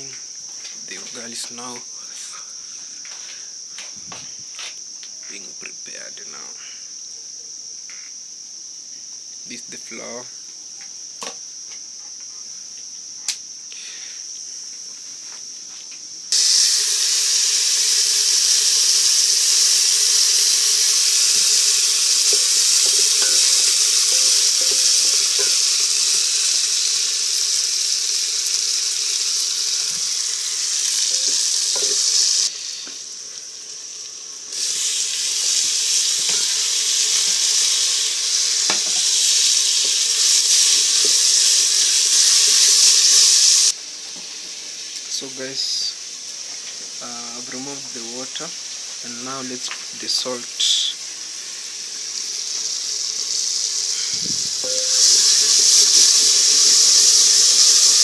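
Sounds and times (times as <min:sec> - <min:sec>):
greens sizzling in a pan: 0:00.0 - 0:05.2, 0:16.3 - 0:58.0
crickets trilling: 0:00.0 - 0:58.0.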